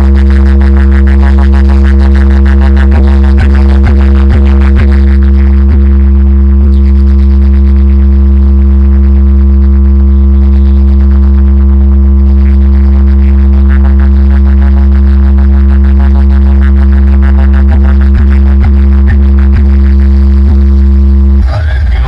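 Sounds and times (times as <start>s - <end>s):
loud low bass drone: 0.0s - 22.0s
steady higher tones: 0.0s - 22.0s.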